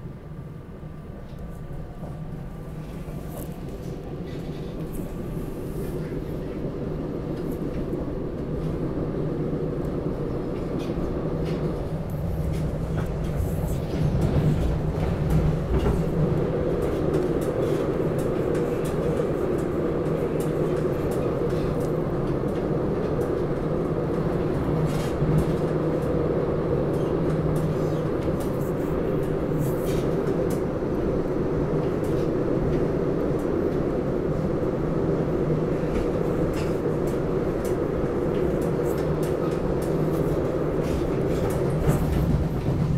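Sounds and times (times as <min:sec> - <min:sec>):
train ride low rumble: 0:00.0 - 0:42.9.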